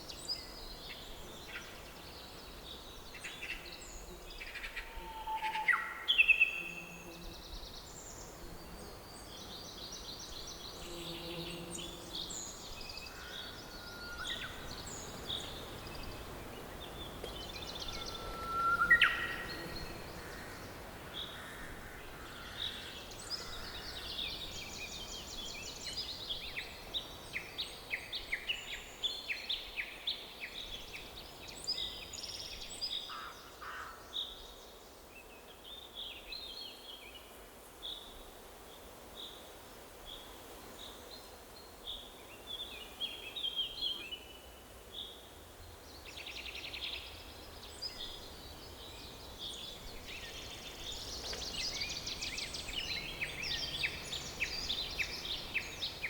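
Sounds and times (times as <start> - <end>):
songbirds chirping and trilling: 0.0 - 37.2, 40.9 - 56.0
faint outdoor background hiss: 0.0 - 56.0.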